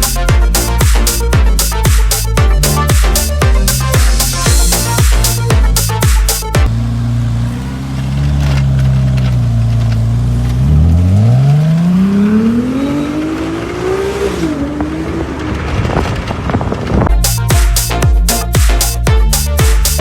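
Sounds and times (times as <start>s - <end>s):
car engine accelerating: 0.0s - 17.2s.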